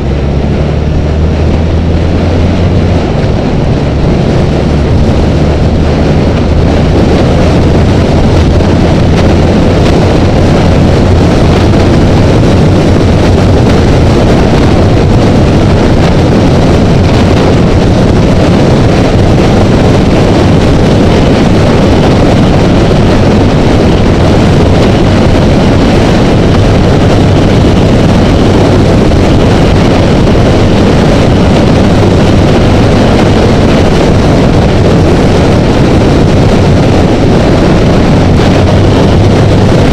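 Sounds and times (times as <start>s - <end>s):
motorcycle engine droning: 0.0s - 39.9s
wind rushing on camera: 0.0s - 39.9s.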